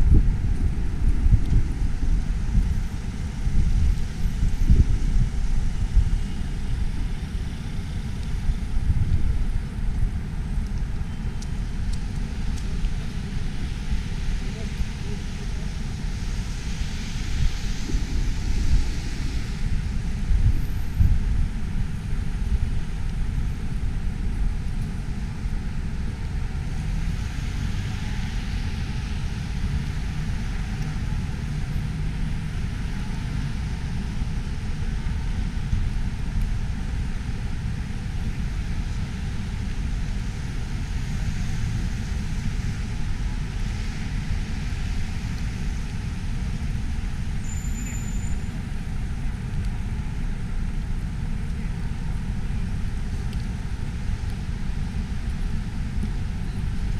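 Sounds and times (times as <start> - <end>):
wind buffeting microphone: 0.0 - 47.4
road traffic noise: 0.0 - 56.9.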